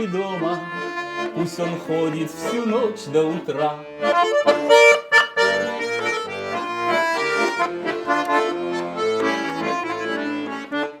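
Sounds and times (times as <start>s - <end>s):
button accordion melody: 0.0s - 11.0s.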